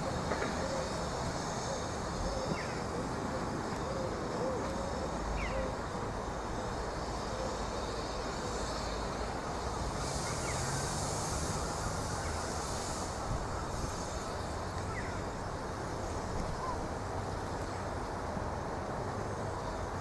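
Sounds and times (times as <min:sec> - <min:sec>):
steam locomotive running: 0:00.0 - 0:05.2, 0:05.8 - 0:20.0
steam hiss: 0:00.0 - 0:20.0.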